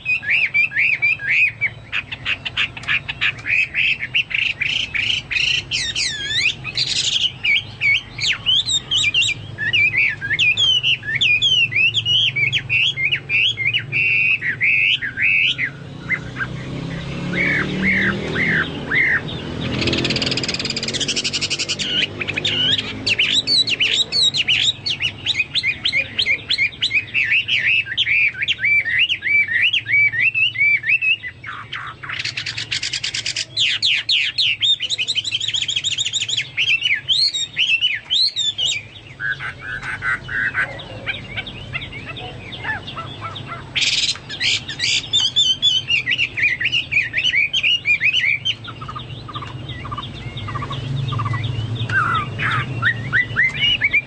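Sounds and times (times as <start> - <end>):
songbird whistling and trilling: 0.0 - 54.0.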